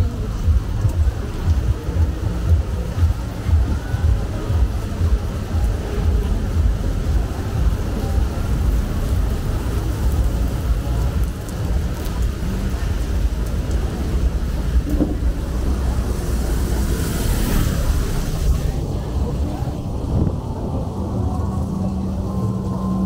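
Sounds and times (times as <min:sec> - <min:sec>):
wind buffeting microphone: 0:00.0 - 0:22.3
rain hiss: 0:00.0 - 0:22.7
surf on the shore: 0:01.4 - 0:23.0.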